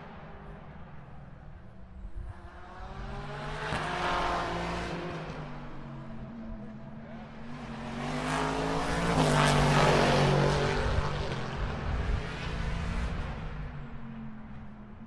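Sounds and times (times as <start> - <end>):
race car passing by: 0.0 - 14.6.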